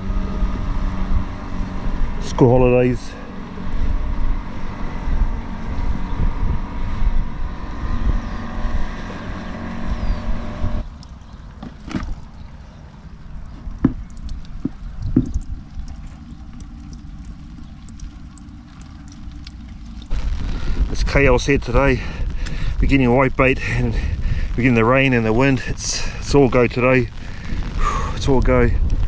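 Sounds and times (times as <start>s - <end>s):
wind buffeting the microphone: 0.0s - 10.9s, 11.8s - 18.2s, 20.1s - 29.0s
engine drone: 0.0s - 29.0s.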